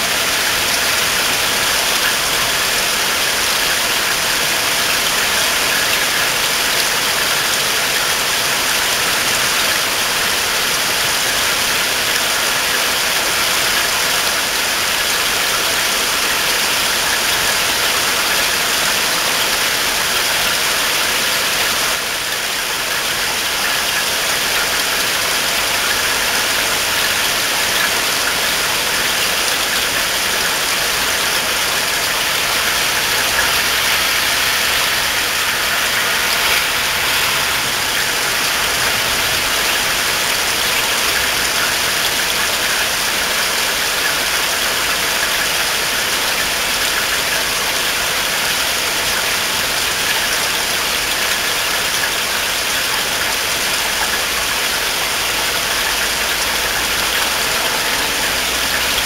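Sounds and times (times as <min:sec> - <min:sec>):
rain falling on trees: 0:00.0 - 0:59.0.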